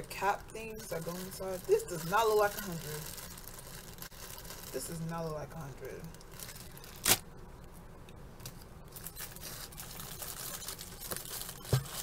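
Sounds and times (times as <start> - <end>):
plastic bag crackle: 0.0 - 7.2, 8.9 - 12.0.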